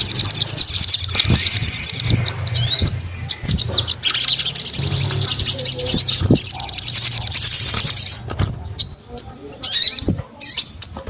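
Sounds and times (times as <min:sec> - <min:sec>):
songbird trilling and chirping: 0:00.0 - 0:11.0.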